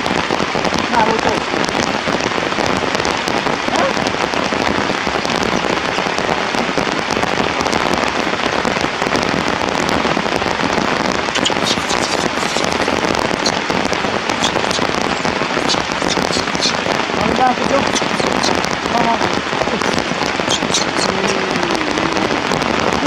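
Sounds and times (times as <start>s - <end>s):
rain pattering on surfaces: 0.0s - 23.0s.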